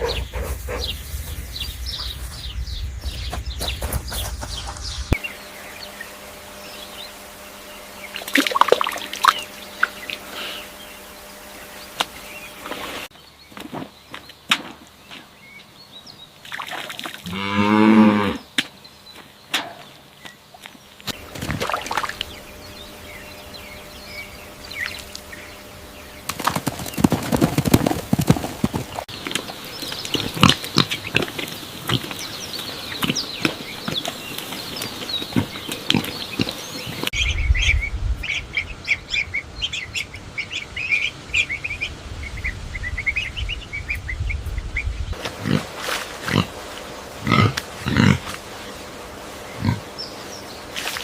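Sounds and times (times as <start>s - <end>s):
outdoor background noise: 0.0s - 51.0s.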